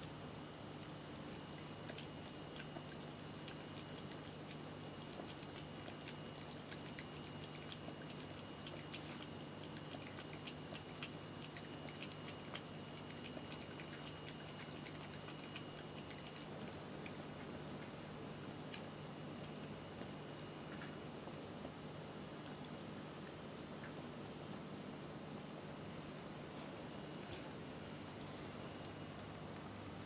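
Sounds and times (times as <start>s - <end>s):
cat lapping water: 0.0s - 24.8s.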